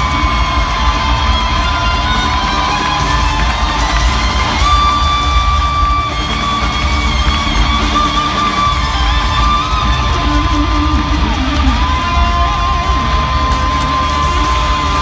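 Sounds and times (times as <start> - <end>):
electric guitar sustained bending notes: 0.0 - 15.0
rock band playing: 0.0 - 15.0.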